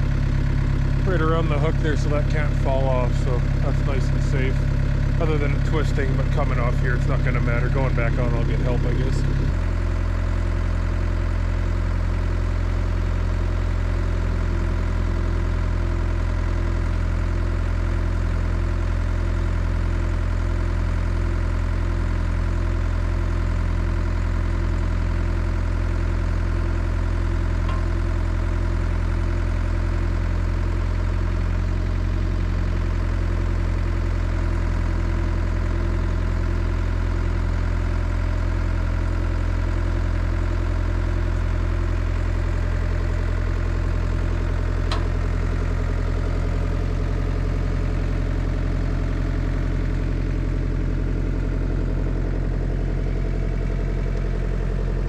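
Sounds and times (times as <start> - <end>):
excavator diesel engine idling: 0.0 - 55.0.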